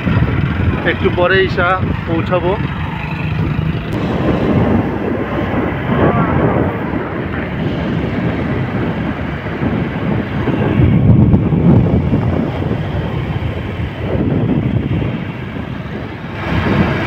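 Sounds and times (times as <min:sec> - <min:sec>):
road rumble: 0:00.0 - 0:17.0
wind buffeting microphone: 0:00.0 - 0:17.0
wind noise: 0:00.0 - 0:17.0.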